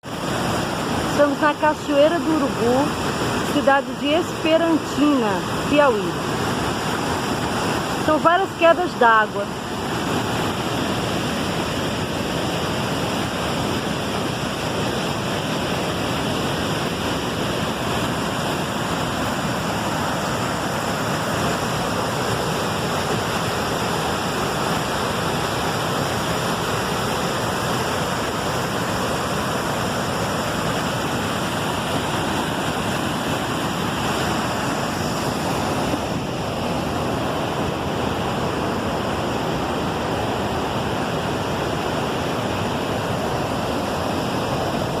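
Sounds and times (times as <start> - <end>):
waterfall roaring: 0.0 - 45.0.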